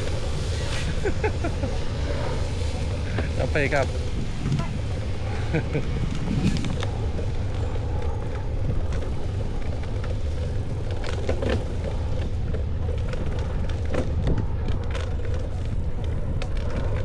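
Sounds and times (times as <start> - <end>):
bicycle tyre and road noise: 0.0 - 17.0
wind rumble on microphone: 0.0 - 17.0.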